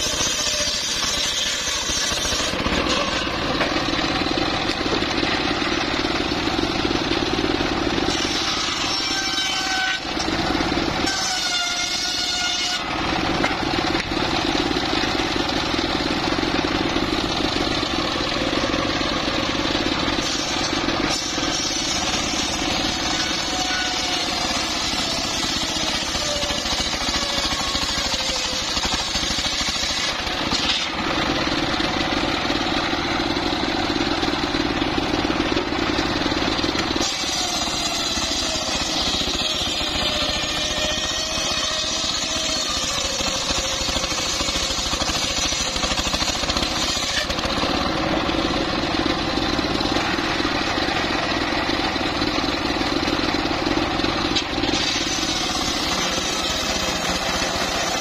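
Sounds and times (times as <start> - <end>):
circular saw cutting wood: 0.0 - 58.0
engine running: 0.0 - 58.0.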